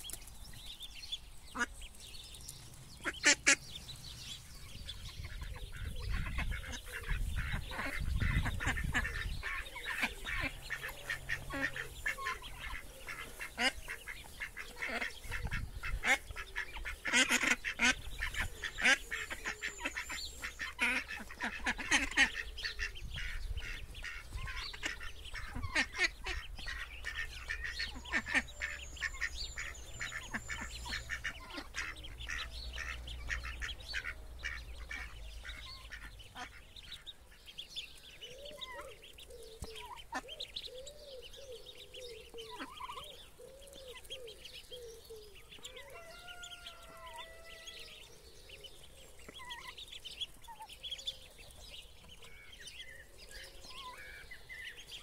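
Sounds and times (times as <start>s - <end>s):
ducklings peeping: 0.0s - 55.0s
adult ducks calling: 1.5s - 2.0s, 2.9s - 55.0s.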